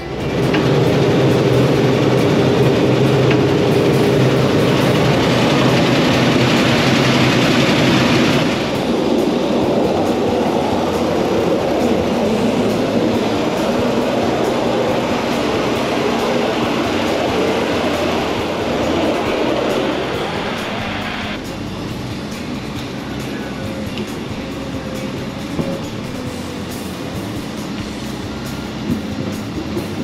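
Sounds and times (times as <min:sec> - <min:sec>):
engine and water pump running: 0:00.0 - 0:30.0.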